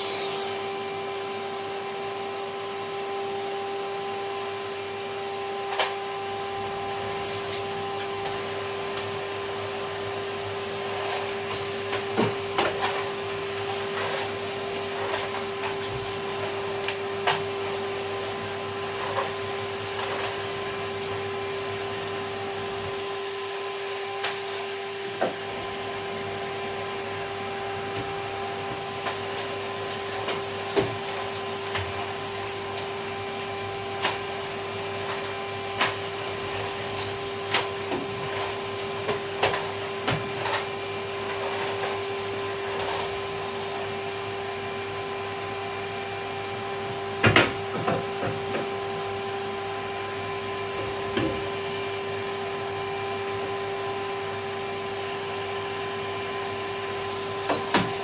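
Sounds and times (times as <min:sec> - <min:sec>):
vacuum cleaner humming: 0:00.0 - 0:58.0.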